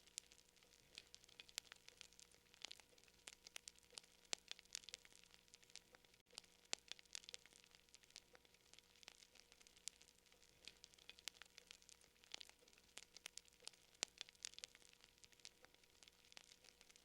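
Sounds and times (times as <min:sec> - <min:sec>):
fire crackling softly: 0:00.0 - 0:17.0.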